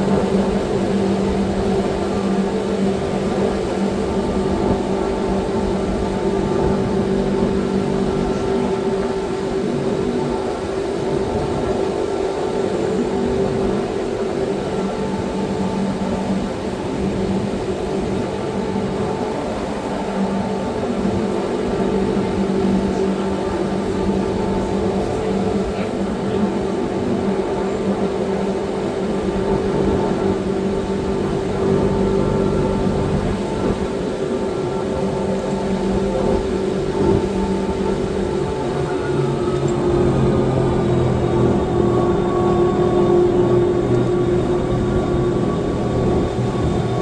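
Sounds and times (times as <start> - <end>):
train rumble: 0.0 - 47.0.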